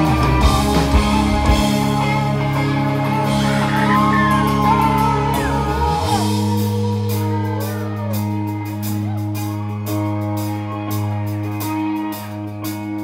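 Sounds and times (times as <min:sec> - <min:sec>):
bass notes: 0:00.0 - 0:13.0
drums: 0:00.0 - 0:13.0
electric guitars: 0:00.0 - 0:13.0.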